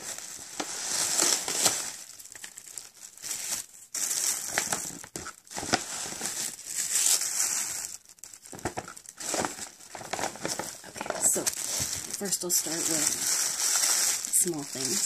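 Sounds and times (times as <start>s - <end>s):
paper bag crinkling and rustling: 0.0s - 15.0s.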